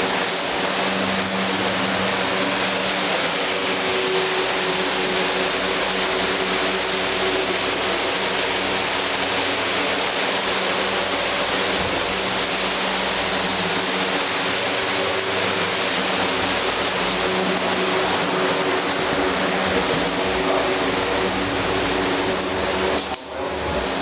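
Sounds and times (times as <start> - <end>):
loud even hiss of blower: 0.0 - 24.0
low motor hum: 0.0 - 24.0.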